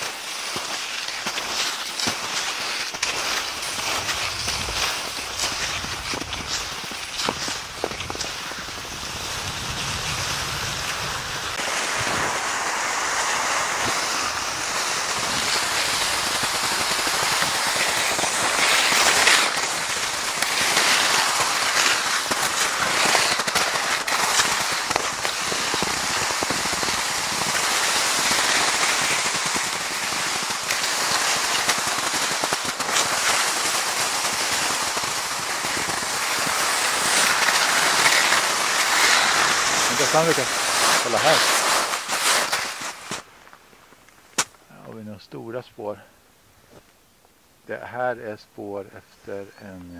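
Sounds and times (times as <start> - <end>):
skis gliding over crusted snow: 0.0 - 45.2.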